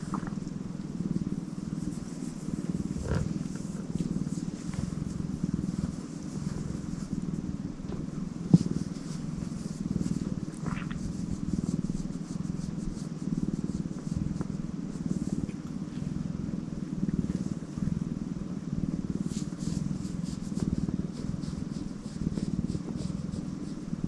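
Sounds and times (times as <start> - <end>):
cat purring: 0.0 - 24.0.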